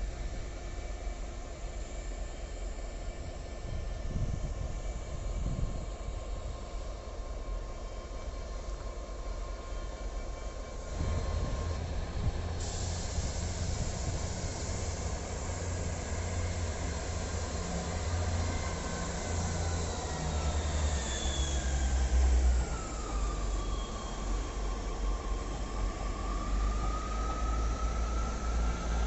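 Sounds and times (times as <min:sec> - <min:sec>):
train engine rumble: 0:00.0 - 0:29.0.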